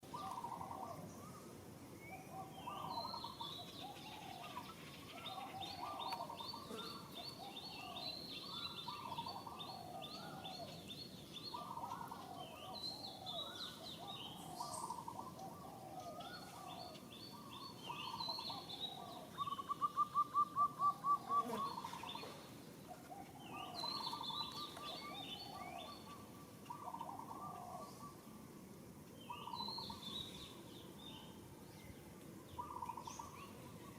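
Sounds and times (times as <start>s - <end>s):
birds calling: 0.0s - 28.4s, 29.0s - 33.9s.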